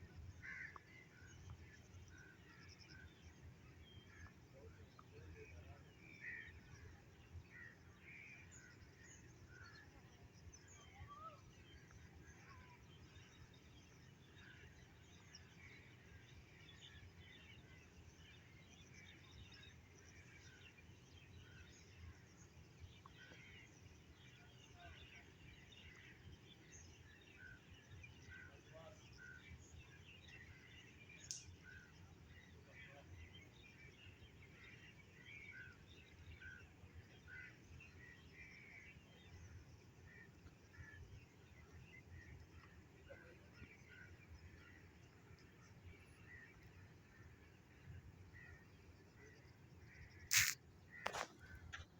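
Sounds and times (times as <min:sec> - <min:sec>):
birds chirping: 0:00.3 - 0:51.9.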